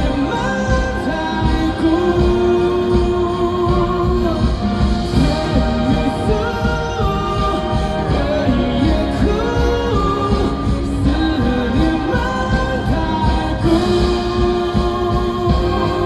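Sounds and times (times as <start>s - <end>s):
live pop ballad by band: 0.0s - 16.0s.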